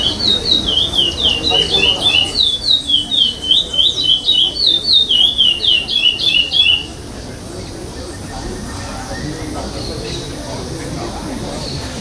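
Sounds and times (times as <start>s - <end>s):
finch singing whistled notes: 0.0s - 10.4s.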